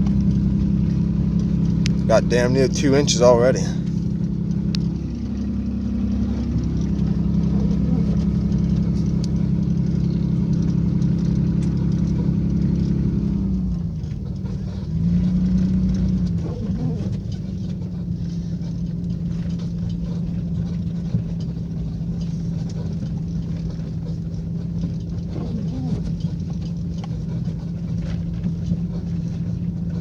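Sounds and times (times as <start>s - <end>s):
car engine droning while driving: 0.0s - 30.0s.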